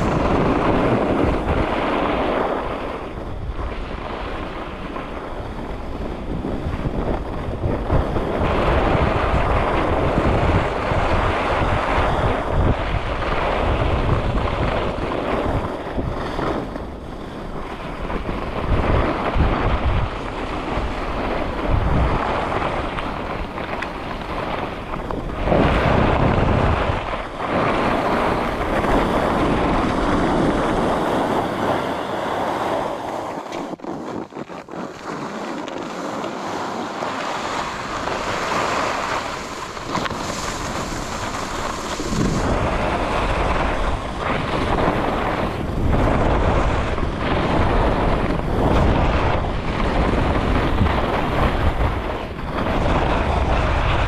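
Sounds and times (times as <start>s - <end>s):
ski edges scraping packed snow: 0.0s - 54.0s
wind buffeting microphone: 0.0s - 54.0s.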